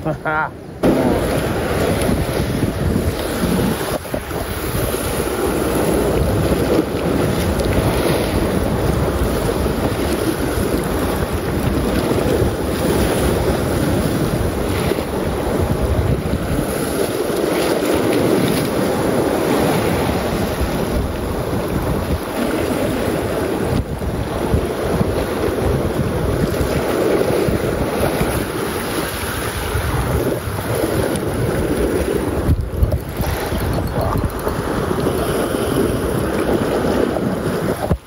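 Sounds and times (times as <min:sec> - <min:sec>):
waves washing against rocks: 0:00.0 - 0:38.0
wind buffeting microphone: 0:00.7 - 0:38.0.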